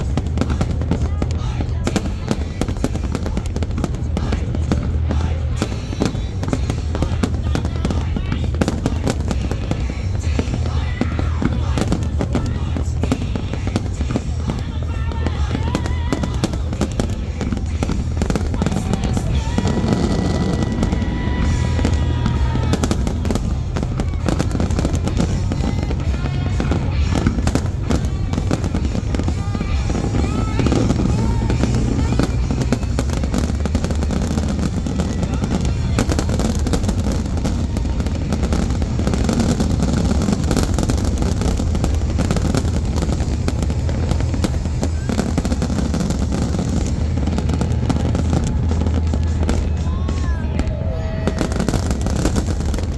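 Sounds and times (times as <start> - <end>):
fireworks bangs and crackles: 0.0 - 52.9
low rumble: 0.0 - 52.9.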